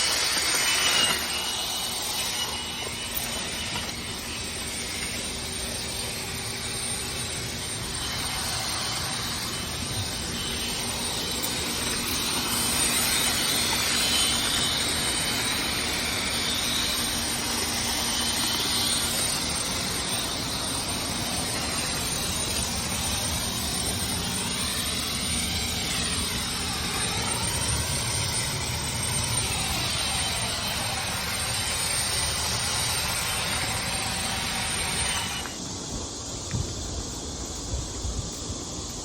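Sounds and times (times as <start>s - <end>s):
engine-like roar with hiss: 0.0s - 39.0s.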